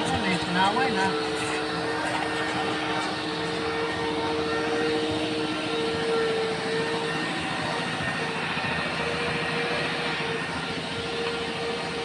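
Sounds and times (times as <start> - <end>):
machine drone with constant whine: 0.0 - 12.0.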